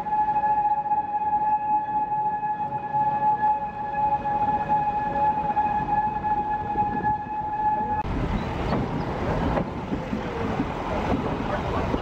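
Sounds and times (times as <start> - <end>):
locomotive high tone: 0.0 - 9.6
coach wheels rumbling on rail: 0.0 - 12.0.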